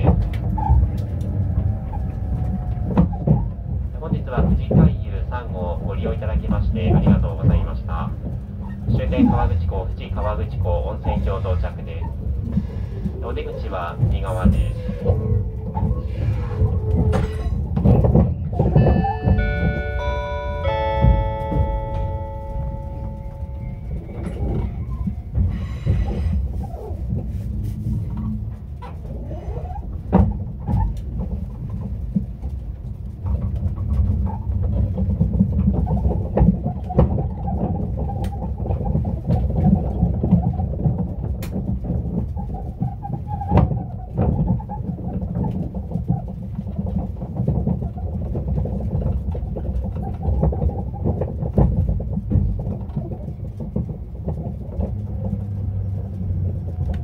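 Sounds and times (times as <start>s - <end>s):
train wheels rumbling: 0.0s - 57.0s
wheels clicking over rail joints: 0.0s - 57.0s.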